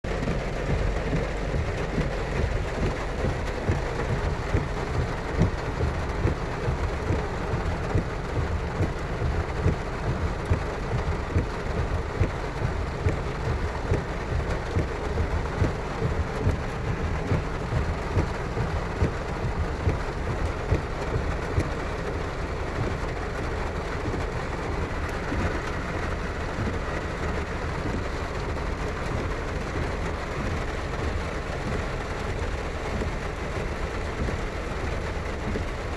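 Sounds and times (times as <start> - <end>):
deep rumble: 0.0 - 34.5
heavy rain pouring: 0.0 - 35.9.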